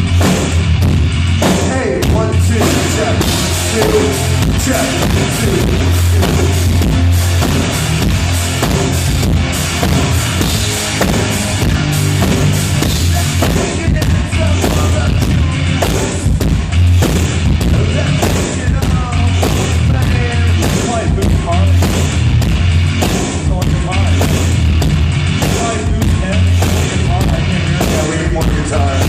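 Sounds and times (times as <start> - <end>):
hard drum hits: 0.0 - 29.0
heavy bass line: 0.0 - 29.0
rock band playing: 0.0 - 29.0.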